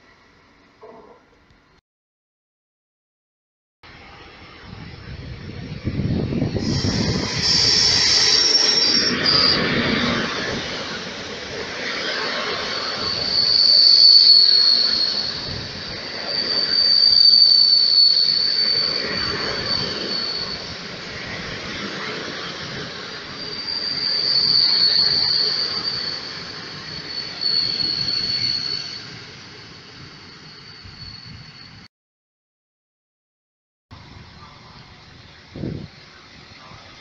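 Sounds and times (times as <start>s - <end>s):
rumbling rail noise: 0.0s - 1.8s, 3.8s - 31.9s, 33.9s - 37.0s
train wheels squealing on rails: 3.9s - 31.9s, 34.1s - 37.0s.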